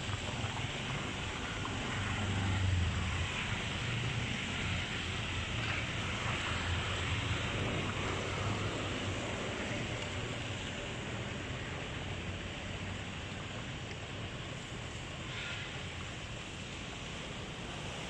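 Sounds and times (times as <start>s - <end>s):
floodwater rushing into culvert: 0.0s - 18.0s
wind rumbling on microphone: 0.0s - 18.0s.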